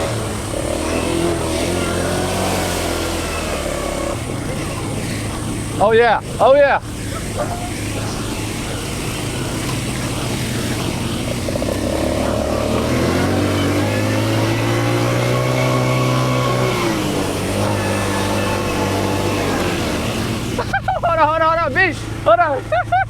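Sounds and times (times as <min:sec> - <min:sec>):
quad bike engine revving: 0:00.0 - 0:23.0.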